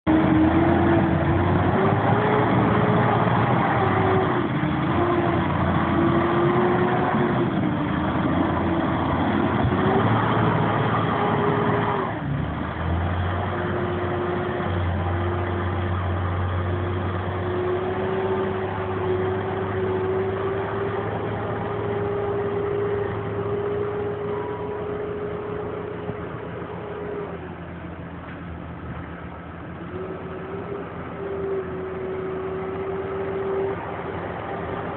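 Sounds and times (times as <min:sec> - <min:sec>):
tractor diesel engines working: 0:00.0 - 0:34.9
strong whine: 0:00.1 - 0:34.9.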